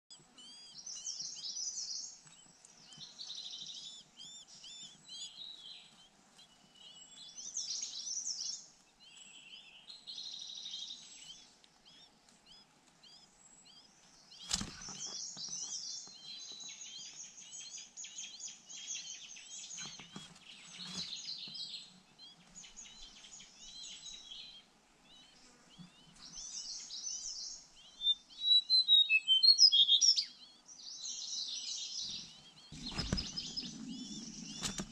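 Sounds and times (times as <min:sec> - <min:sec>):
chicks begging chirps: 0:02.1 - 0:34.9.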